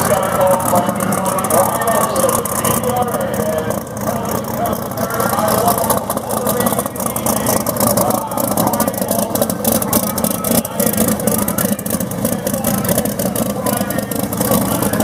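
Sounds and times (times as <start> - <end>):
drag car engine idling: 0.0 - 15.0
exhaust crackles: 0.0 - 15.0.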